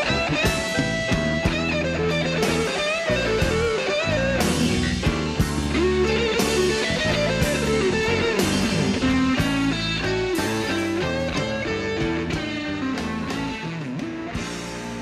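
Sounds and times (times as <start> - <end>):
bass and drums: 0.0 - 15.0
lead guitar bending notes: 0.0 - 15.0.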